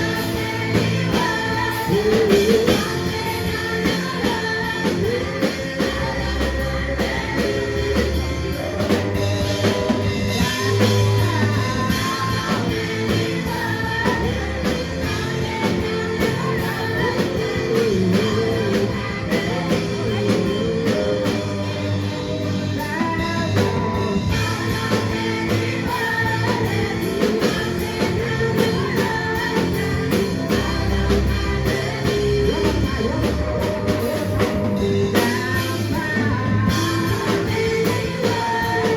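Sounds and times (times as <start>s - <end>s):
drums: 0.0s - 38.9s
gospel band playing: 0.0s - 38.9s
person singing: 0.0s - 38.9s.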